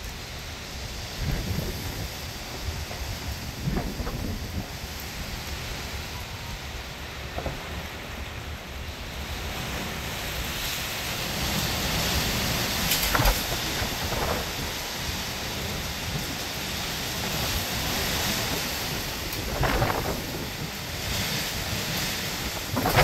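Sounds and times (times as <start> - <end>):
strong wind gusting through trees: 0.0 - 23.0
wind buffeting microphone: 0.0 - 23.0.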